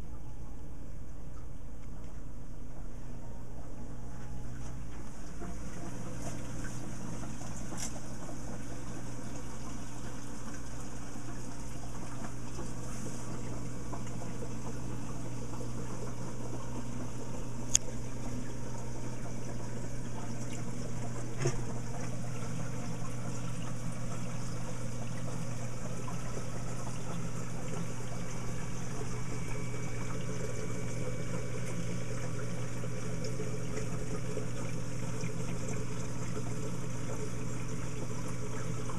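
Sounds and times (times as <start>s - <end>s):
water trickling: 3.6s - 38.9s.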